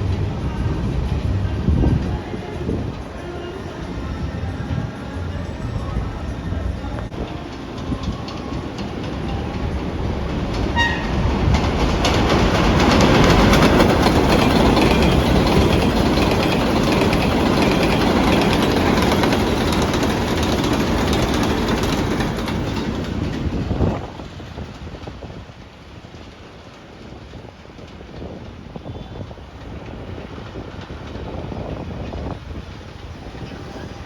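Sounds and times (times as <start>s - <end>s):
train wheels clacking on rail: 0.0s - 34.0s.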